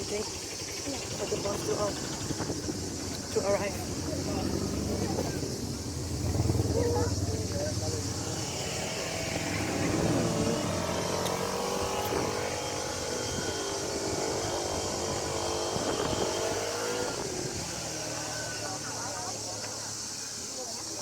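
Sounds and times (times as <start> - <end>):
vehicle engine passing by: 1.0 - 20.5.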